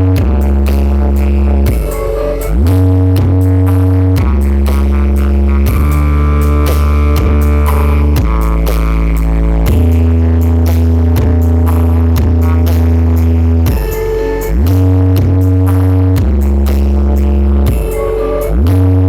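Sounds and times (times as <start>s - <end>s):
electronic dance music with deep bass: 0.0s - 19.0s.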